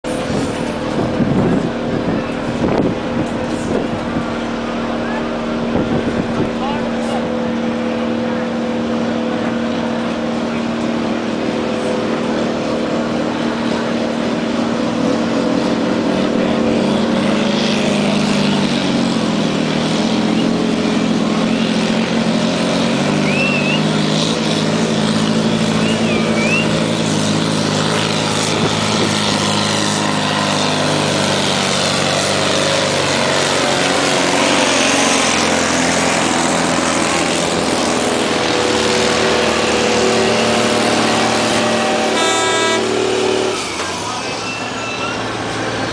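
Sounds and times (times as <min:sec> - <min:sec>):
truck diesel engine straining: 0:00.0 - 0:45.9.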